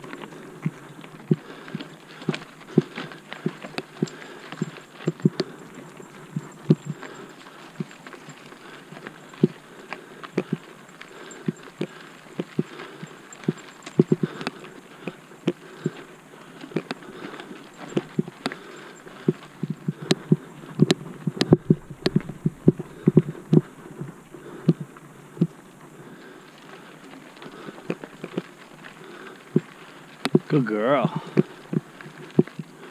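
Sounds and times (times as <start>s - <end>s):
mountain bike rattling on rocky trail: 0.0s - 32.9s.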